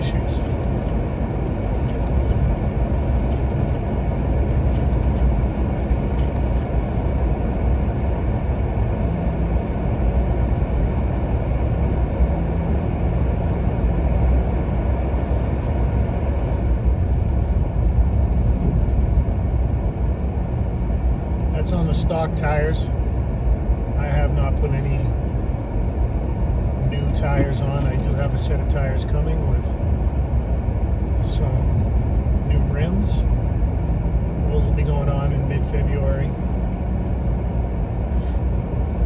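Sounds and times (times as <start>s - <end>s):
low engine hum: 0.0s - 39.0s
tyre and road rumble: 0.0s - 39.0s.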